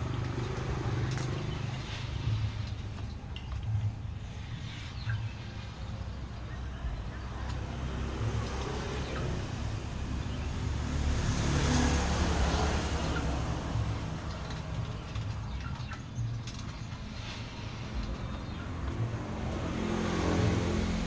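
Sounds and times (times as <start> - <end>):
low motor rumble: 0.0 - 21.0.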